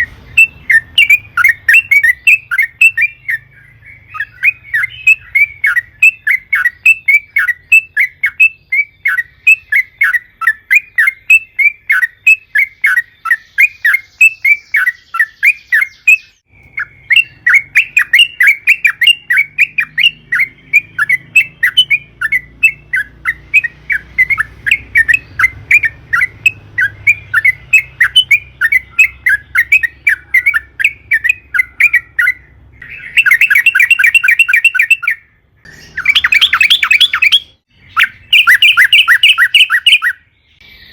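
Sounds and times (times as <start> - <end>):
bird singing chattering song: 0.0 - 40.9.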